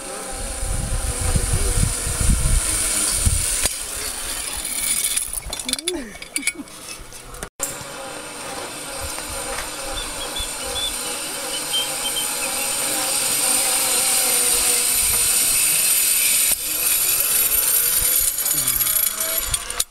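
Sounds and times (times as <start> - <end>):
zip line pulleys whirring on cable: 0.0 - 19.9.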